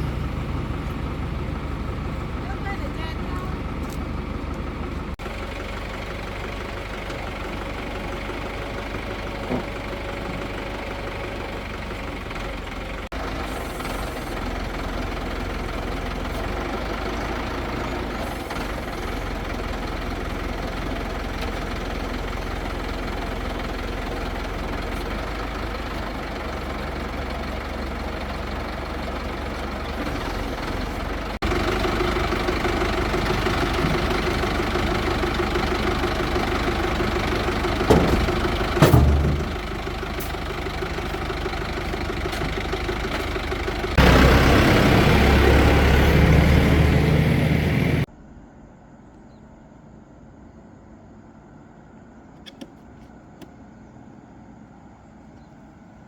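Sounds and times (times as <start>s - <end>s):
crane engine running: 0.0s - 48.1s.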